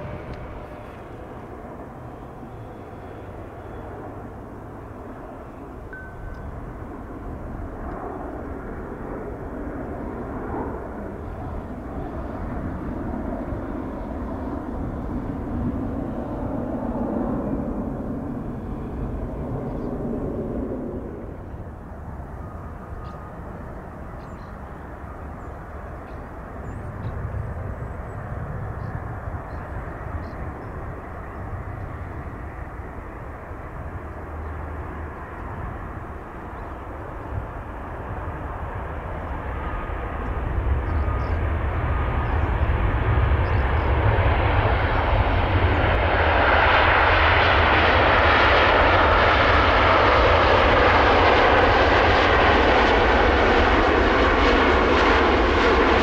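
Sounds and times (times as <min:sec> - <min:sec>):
jet airliner rush and rumble: 0:00.0 - 0:56.0.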